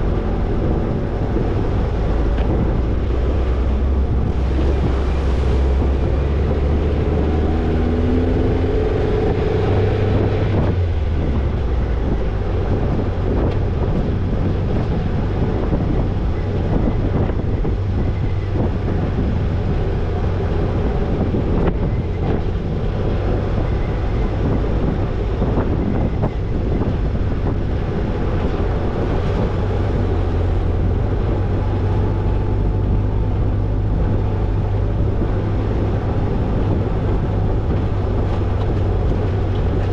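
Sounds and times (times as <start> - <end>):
car engine running: 0.0 - 39.9
wind on microphone: 0.0 - 39.9.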